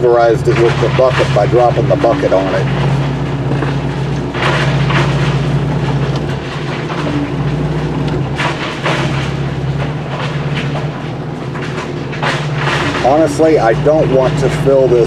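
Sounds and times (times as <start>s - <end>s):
bucket scraping dirt and rocks: 0.0s - 15.0s
excavator diesel engine running: 0.0s - 15.0s.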